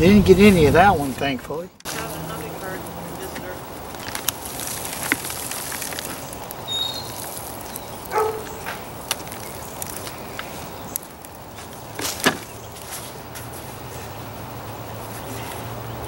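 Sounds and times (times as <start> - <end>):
rustling and scraping in soil: 1.8 - 16.0.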